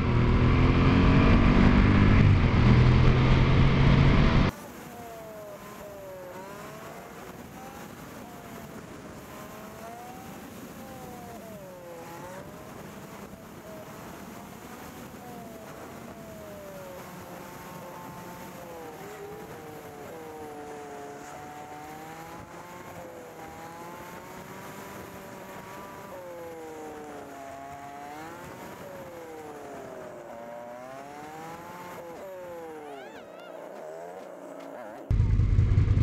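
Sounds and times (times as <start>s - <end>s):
motorcycle engine revving: 0.0s - 4.6s, 5.2s - 36.0s.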